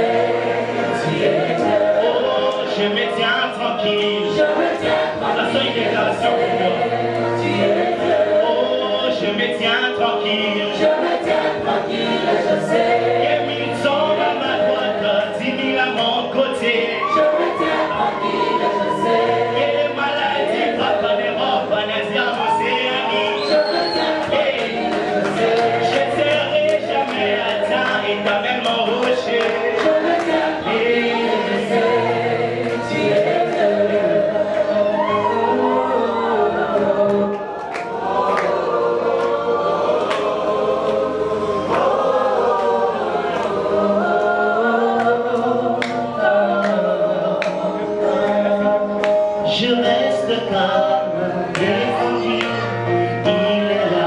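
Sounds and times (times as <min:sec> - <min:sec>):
gospel choir singing: 0:00.0 - 0:54.0
instrumental backing: 0:00.0 - 0:54.0.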